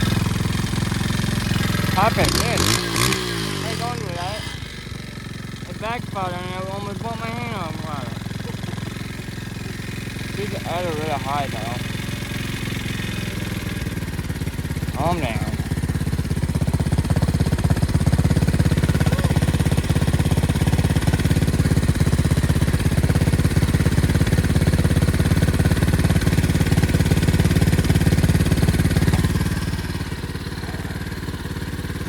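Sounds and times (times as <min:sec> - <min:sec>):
pit bike engine running: 0:00.0 - 0:32.0.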